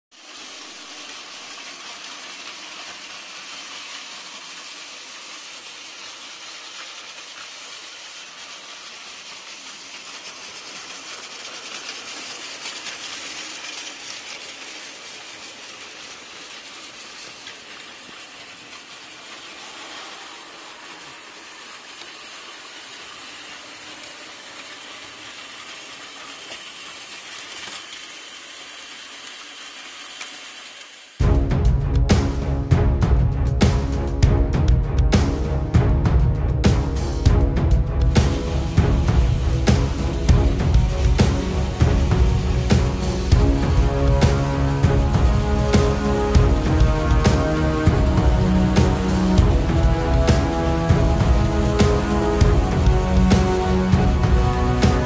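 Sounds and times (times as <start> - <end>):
toy train motors whirring: 0.1 - 31.2, 38.0 - 55.0
wheels clicking over track joints: 0.1 - 31.2, 33.4 - 55.0.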